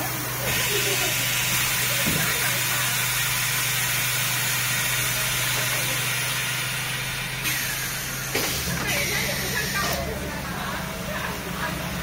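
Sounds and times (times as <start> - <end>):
machine hiss: 0.0 - 10.1.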